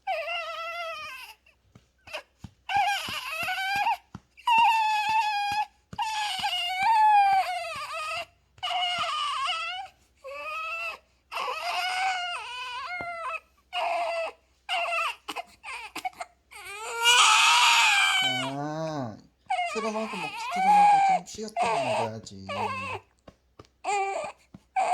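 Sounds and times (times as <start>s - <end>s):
baby crying: 0.0s - 23.1s, 23.8s - 24.9s.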